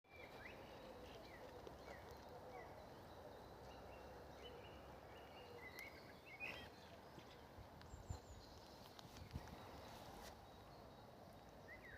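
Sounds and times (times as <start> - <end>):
small birds chirping: 0.1 - 11.9.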